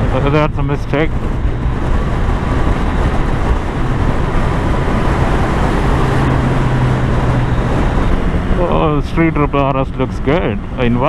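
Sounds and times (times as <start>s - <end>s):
motorcycle engine running: 0.0s - 10.9s
wind and road noise: 0.0s - 11.0s.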